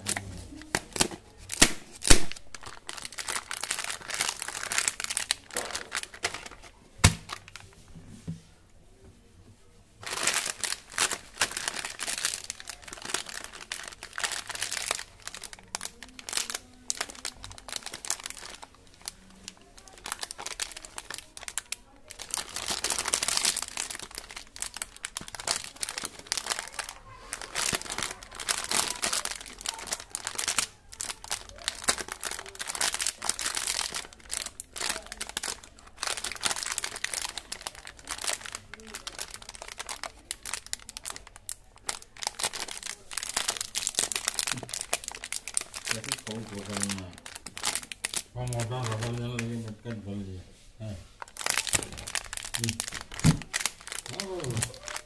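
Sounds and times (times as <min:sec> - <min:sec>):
plastic wrappers crinkling: 0:00.0 - 0:07.9, 0:10.0 - 0:50.2, 0:51.1 - 0:55.0.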